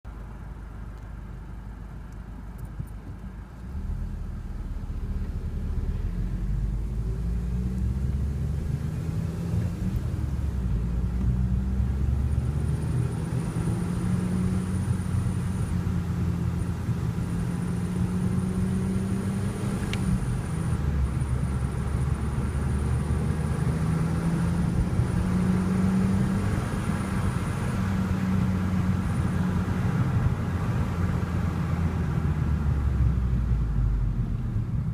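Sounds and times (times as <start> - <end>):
car engine revving: 3.6 - 34.8.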